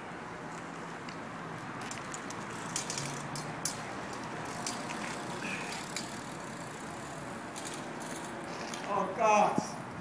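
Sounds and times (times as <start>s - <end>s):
bike riding over asphalt: 0.4s - 9.8s.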